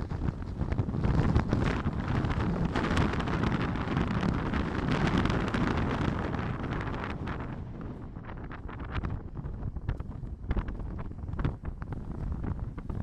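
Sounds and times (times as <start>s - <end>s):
wind gusting over microphone: 0.0s - 13.0s.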